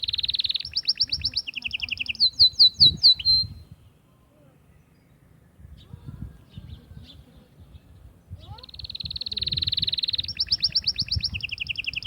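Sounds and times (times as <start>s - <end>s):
canary singing trills: 0.0s - 3.8s, 4.7s - 12.0s
faint bird chirps: 0.0s - 12.0s.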